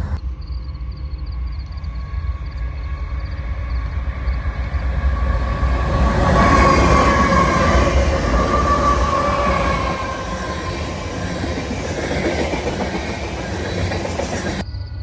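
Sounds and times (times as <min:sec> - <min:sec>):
freight train rolling on rails: 0:00.0 - 0:14.7.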